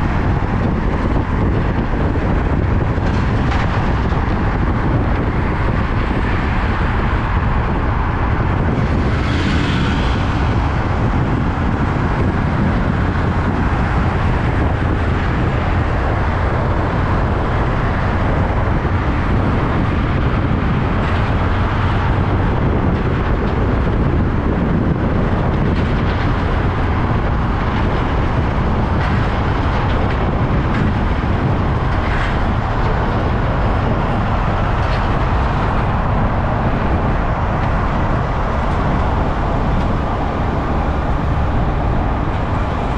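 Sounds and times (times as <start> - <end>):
heavy truck engines rumbling: 0.0 - 42.9
traffic: 0.0 - 42.9.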